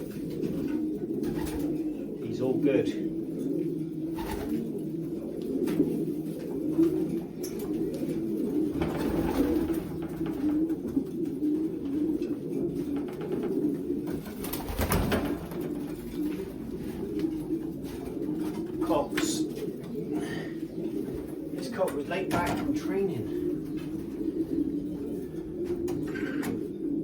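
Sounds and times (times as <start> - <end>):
pigeons cooing: 0.0 - 27.0.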